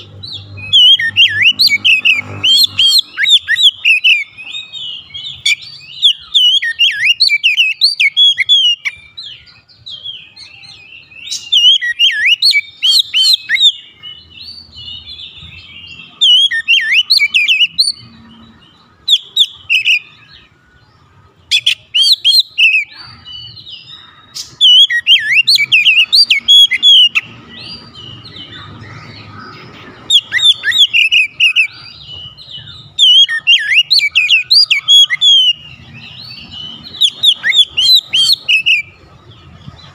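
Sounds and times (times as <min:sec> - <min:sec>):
songbird whistling and chattering: 0:00.0 - 0:39.9.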